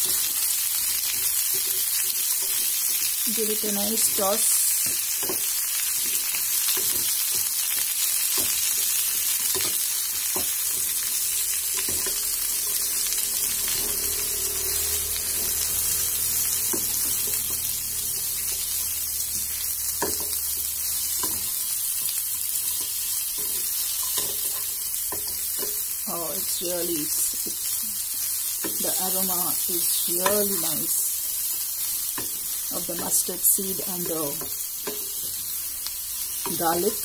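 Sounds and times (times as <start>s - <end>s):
carrots sizzling in oil: 0.0s - 37.0s.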